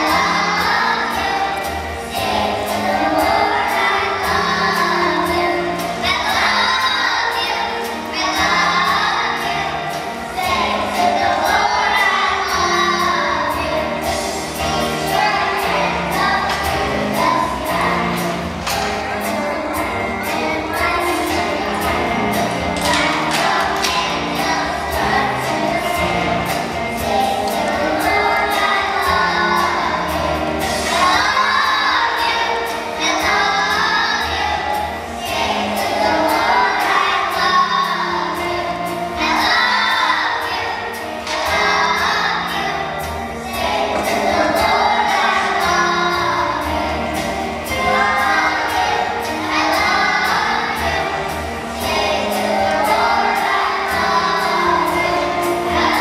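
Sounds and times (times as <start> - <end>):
children's choir singing: 0.0 - 56.0
musical accompaniment: 0.0 - 56.0.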